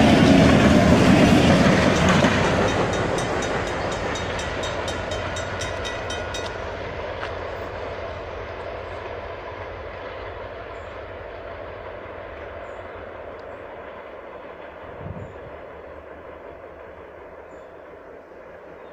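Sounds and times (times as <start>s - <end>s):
diesel locomotive running: 0.0s - 18.9s
train wheels on rails: 0.0s - 18.9s.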